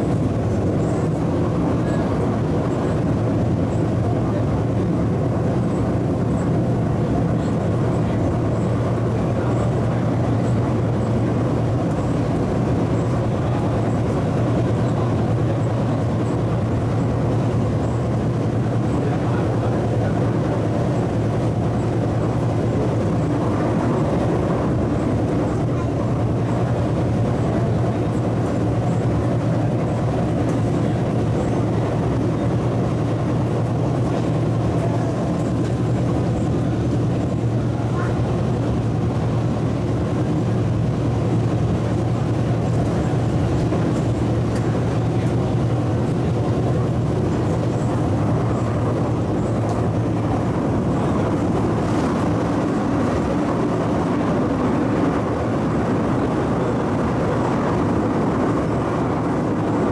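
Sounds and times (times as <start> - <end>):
wheel on rail rumble: 0.0 - 59.9.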